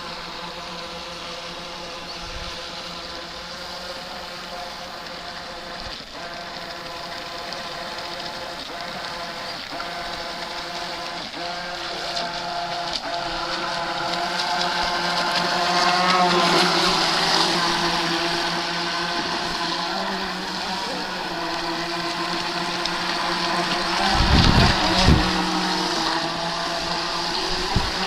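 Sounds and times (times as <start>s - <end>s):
rc boat motor whine: 0.0s - 28.0s
water hissing: 2.5s - 28.0s.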